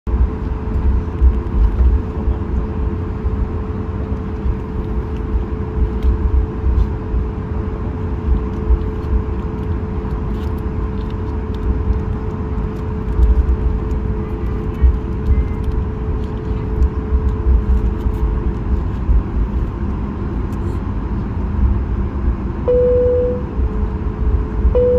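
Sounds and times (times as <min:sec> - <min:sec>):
airplane engines humming while taxiing: 0:00.1 - 0:24.9.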